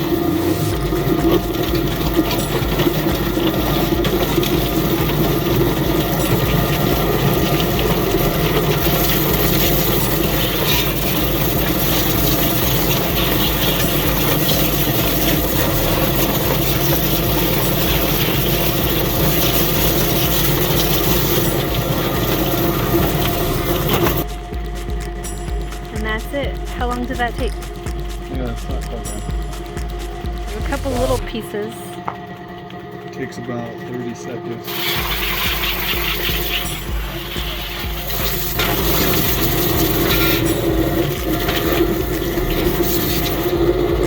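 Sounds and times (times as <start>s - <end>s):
motor humming and whirring: 0.0s - 44.0s.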